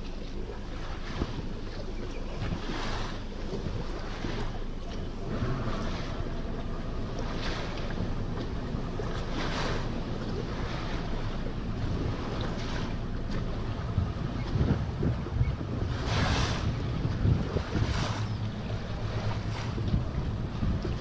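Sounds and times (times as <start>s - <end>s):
water lapping against hull: 0.0s - 21.0s
wind buffeting microphone: 0.0s - 21.0s.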